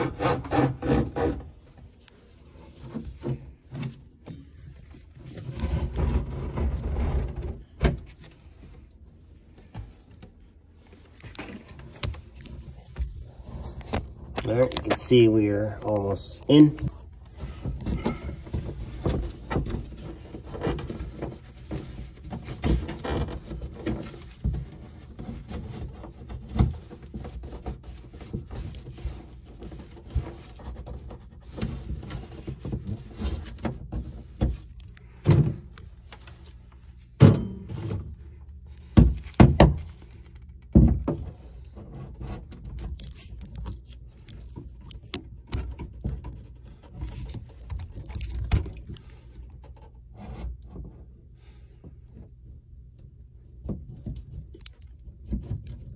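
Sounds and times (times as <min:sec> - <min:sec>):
hose rubbing and handling: 0:00.0 - 0:55.9.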